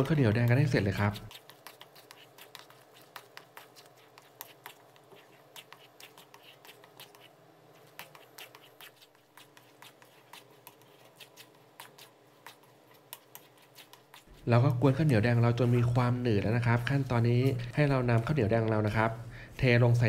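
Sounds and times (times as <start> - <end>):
paddle stirring sticky rice: 0.0 - 19.8.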